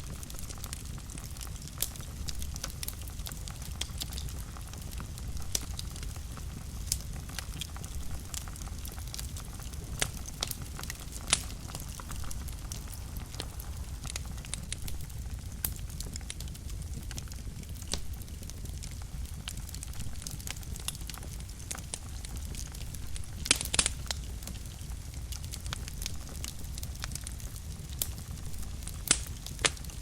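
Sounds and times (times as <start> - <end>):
fire crackles and pops: 0.0 - 30.0
low rumble of flames: 0.0 - 30.0.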